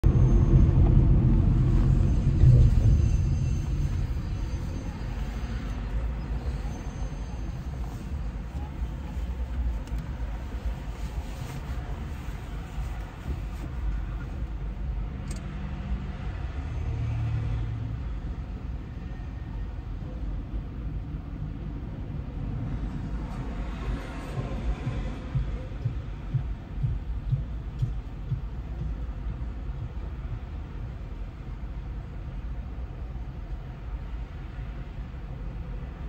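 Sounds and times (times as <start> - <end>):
low vehicle rumble: 0.0 - 36.0.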